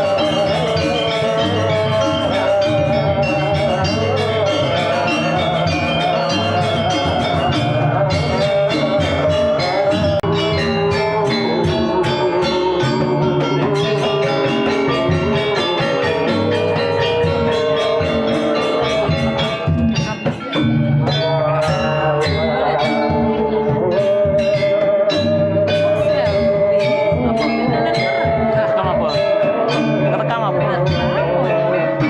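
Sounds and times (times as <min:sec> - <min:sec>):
gamelan music: 0:00.0 - 0:32.0.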